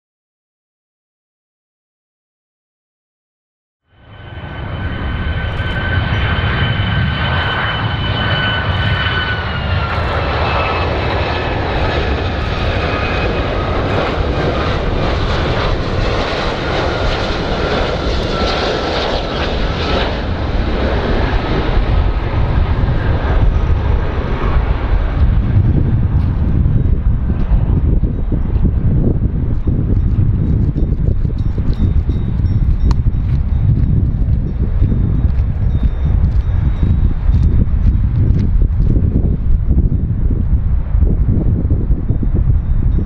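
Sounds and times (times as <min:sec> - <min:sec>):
jet engines rumbling with high whine: 0:03.9 - 0:43.0.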